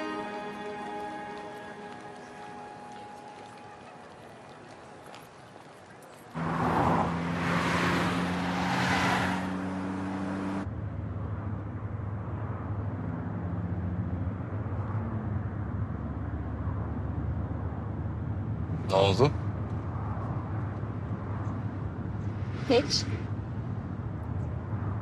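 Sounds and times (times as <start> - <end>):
car engine and tyre drone: 0.0 - 25.0.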